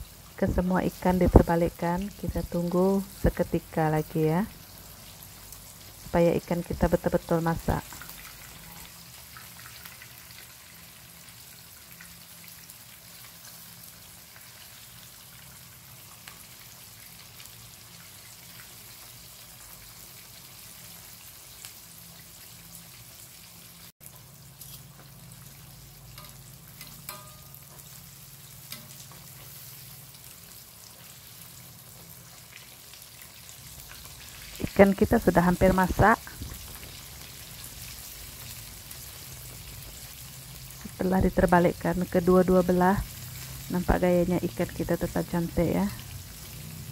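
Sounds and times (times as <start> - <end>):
fish frying in oil: 0.0 - 46.9
oil popping and crackling: 4.6 - 46.9.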